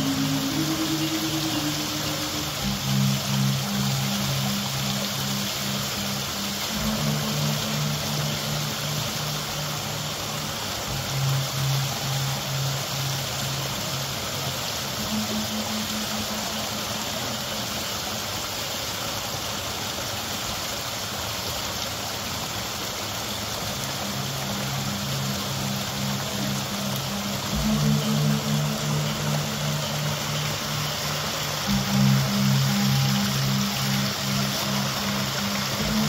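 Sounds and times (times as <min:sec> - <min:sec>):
low background music: 0:00.0 - 0:19.2, 0:23.5 - 0:36.0.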